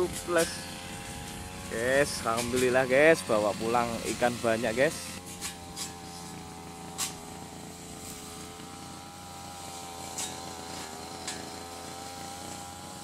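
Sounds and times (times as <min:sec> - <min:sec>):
motor droning hum: 0:00.0 - 0:13.0.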